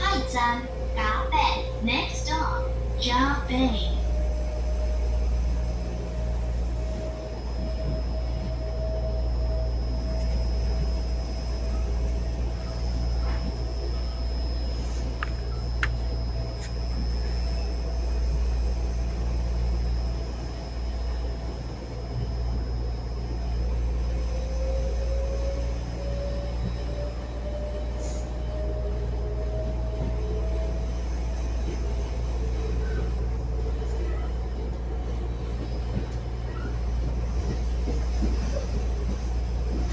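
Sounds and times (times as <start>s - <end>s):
electric train whine: 0.0s - 39.9s
train low rumble: 0.0s - 39.9s.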